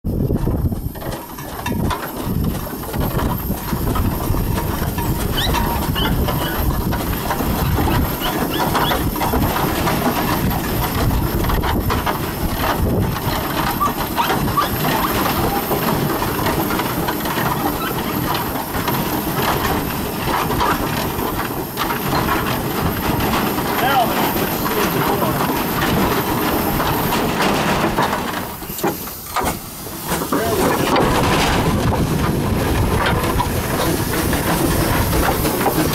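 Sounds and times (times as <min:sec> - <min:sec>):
steel wheels rumbling on road: 0:00.0 - 0:35.9
steam engine mechanical clatter: 0:00.1 - 0:35.9.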